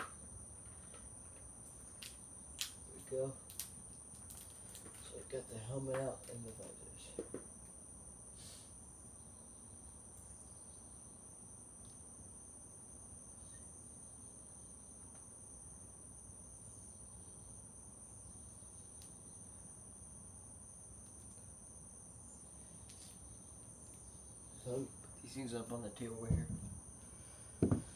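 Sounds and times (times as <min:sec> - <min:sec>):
high-pitched insect trill: 0:00.0 - 0:27.9
low background hum: 0:00.0 - 0:27.9.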